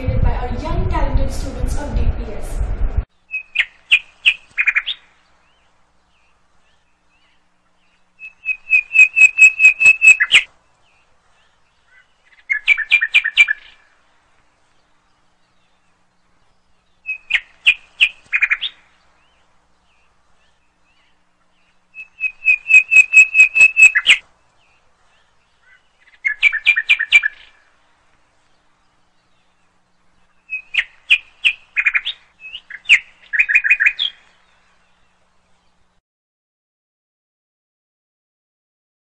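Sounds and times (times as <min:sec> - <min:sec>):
bird chirps and trills: 0:03.2 - 0:36.0.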